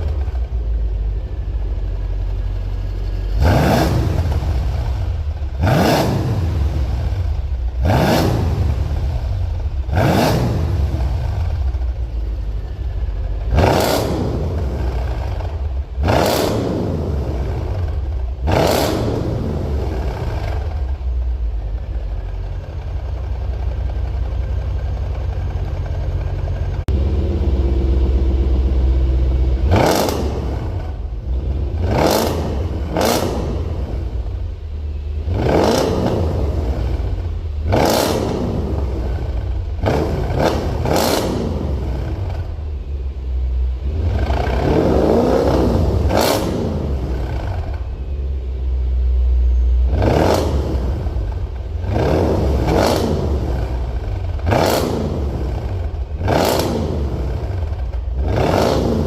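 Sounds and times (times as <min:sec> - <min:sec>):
car engine idling: 0:00.0 - 0:59.0
car engine revving: 0:00.0 - 0:59.0.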